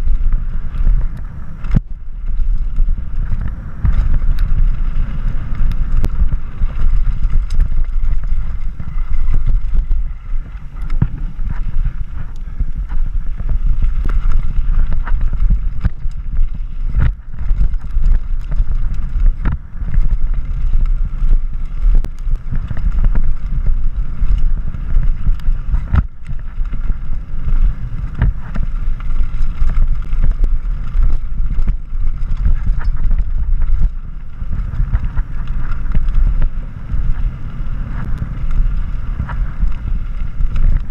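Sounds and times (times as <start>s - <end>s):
bike clacking and rattling: 0.0s - 40.9s
tyres rolling over gravel: 0.0s - 40.9s
wind buffeting microphone: 0.0s - 40.9s.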